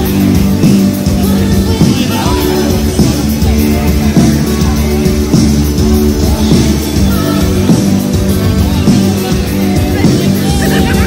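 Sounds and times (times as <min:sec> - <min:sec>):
person singing: 0:00.0 - 0:11.0
rock band playing: 0:00.0 - 0:11.0.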